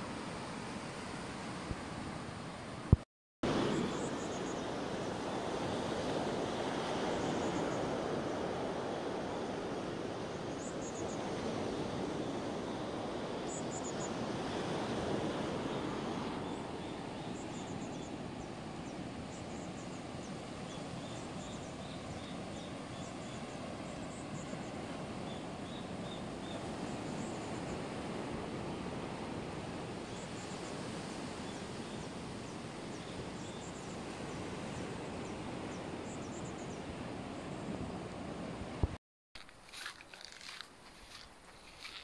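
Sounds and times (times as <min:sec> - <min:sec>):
waves rushing: 0:00.0 - 0:38.9
wind: 0:00.0 - 0:42.0.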